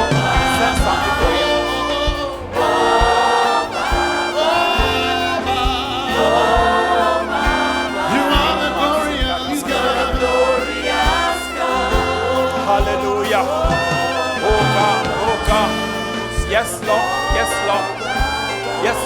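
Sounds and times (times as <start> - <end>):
steady low beat: 0.0 - 19.0
sustained keyboard chords: 0.0 - 19.0
voices singing gospel: 0.0 - 19.0.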